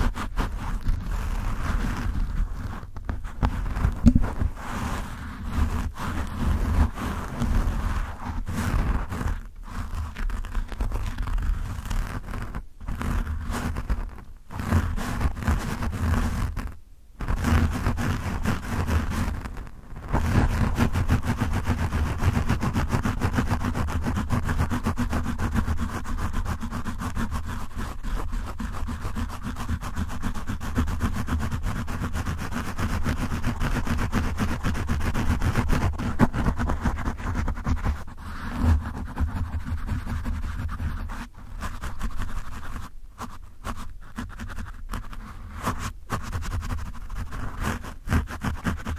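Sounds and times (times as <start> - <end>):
fingertips scratching microphone windscreen: 0.0 - 48.9.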